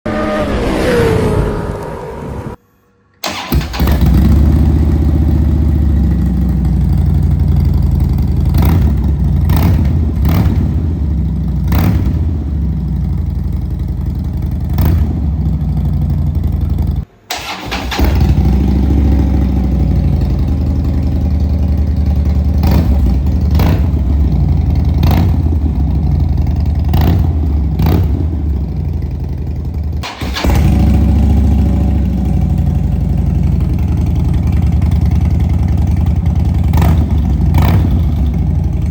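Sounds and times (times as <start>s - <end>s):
motorcycle engine idling: 3.2s - 38.9s
motorcycle throttle blips: 3.2s - 38.9s.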